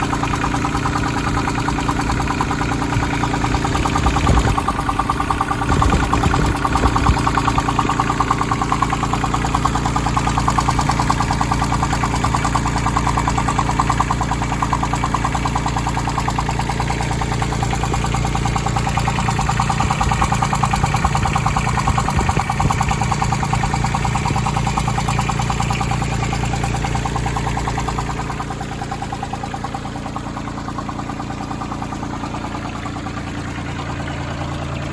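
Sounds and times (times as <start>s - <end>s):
diesel tractor engine running: 0.0s - 34.9s
rhythmic engine knocking: 0.0s - 34.9s.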